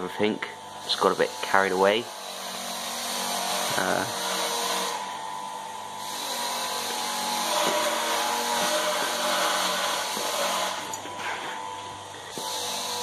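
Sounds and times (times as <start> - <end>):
air compressor motor running: 0.0 - 13.0.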